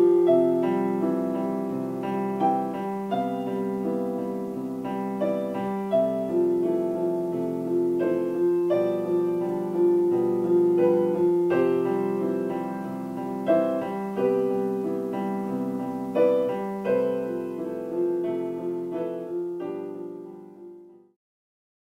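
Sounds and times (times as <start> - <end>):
piano playing slow chords: 0.0 - 21.2.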